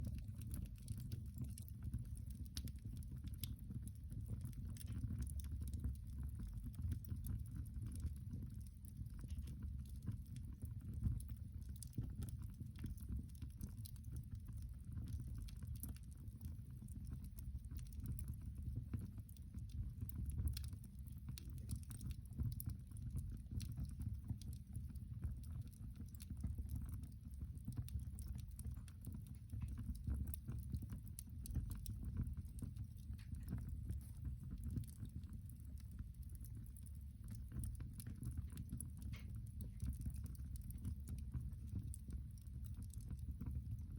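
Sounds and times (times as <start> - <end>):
fire crackling and popping: 0.0 - 43.9
low fire rumble: 0.0 - 43.9.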